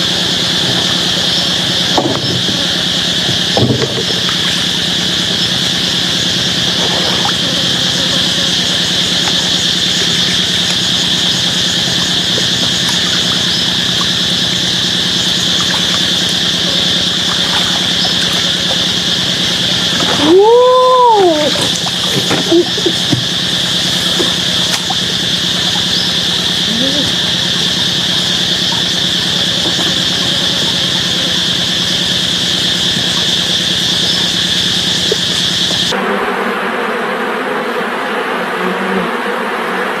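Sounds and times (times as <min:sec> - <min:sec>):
low hum: 0:00.0 - 0:36.0
high insect drone: 0:00.0 - 0:40.0.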